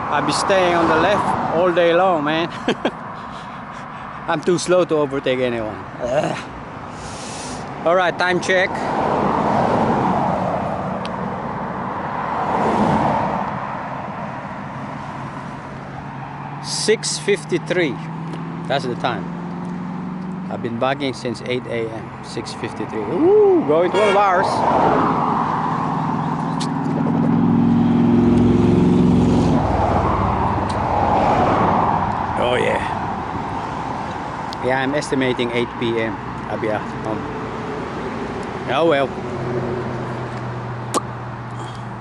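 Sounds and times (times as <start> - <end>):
cars passing: 0.0 - 42.0
road noise: 0.0 - 42.0
wind: 0.0 - 42.0.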